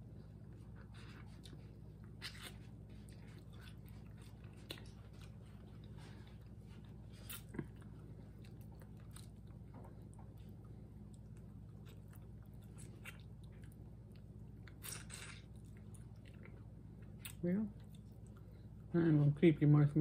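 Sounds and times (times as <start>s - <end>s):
chewing and biting: 0.4s - 18.8s.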